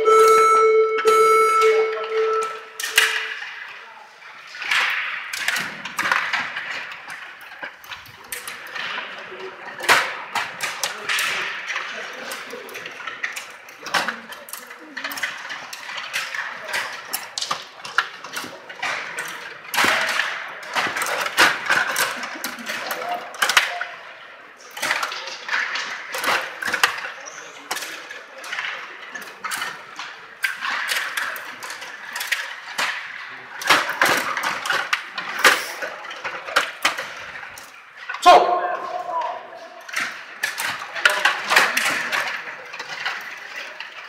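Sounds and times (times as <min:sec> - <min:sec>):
puck striking players and boards: 0:00.0 - 0:44.0
table hockey rods clattering: 0:00.0 - 0:44.0.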